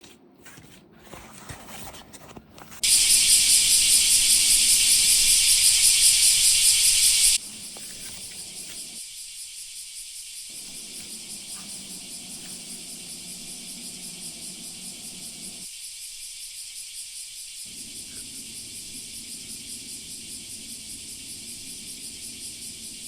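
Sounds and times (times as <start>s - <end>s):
loud high-pitched hiss with flutter: 2.8s - 23.0s.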